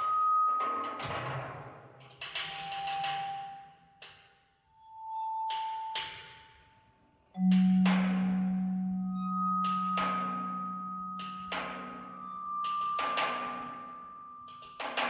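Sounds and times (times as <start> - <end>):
chamber music for pianos and percussion: 0.0 - 15.0.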